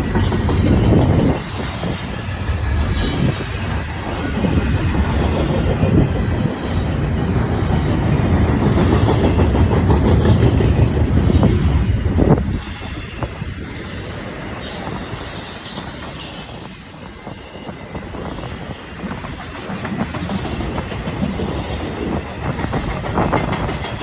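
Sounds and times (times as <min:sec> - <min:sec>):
train wheels clattering over rails: 0:00.0 - 0:24.0.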